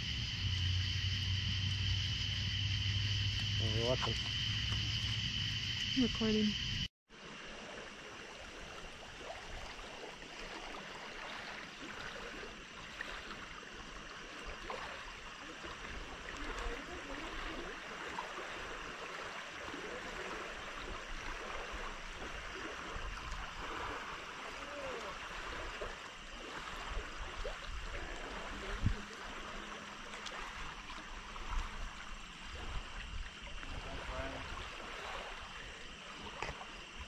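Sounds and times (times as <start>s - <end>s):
water lapping at shore: 0.0s - 37.0s.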